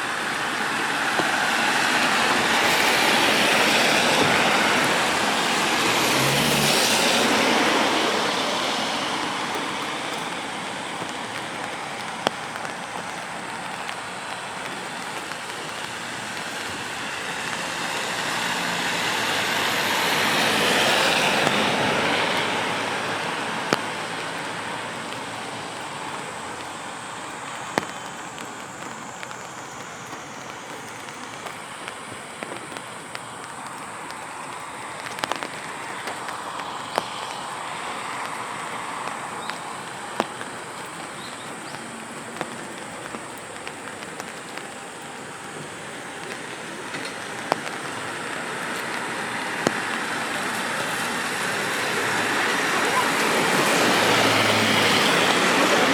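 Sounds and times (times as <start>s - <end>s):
car tyres hissing on wet road: 0.0s - 55.9s
single raindrops ticking: 0.0s - 55.9s
steady rain: 0.0s - 55.9s.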